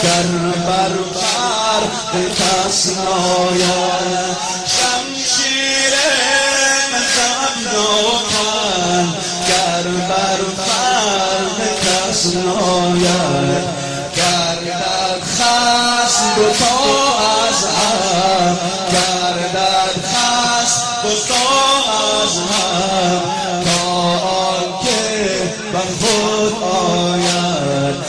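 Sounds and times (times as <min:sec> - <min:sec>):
man chanting a lament: 0:00.0 - 0:28.0.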